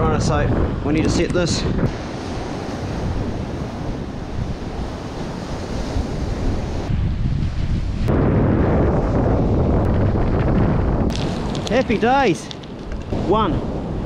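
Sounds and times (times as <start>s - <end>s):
surf washing on stony beach: 0.0s - 14.0s
wind buffeting microphone: 0.0s - 14.0s.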